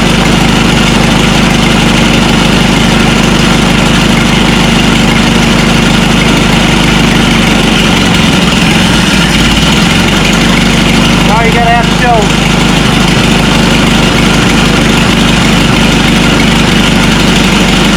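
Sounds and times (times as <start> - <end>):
tractor engine idling: 0.0 - 17.9.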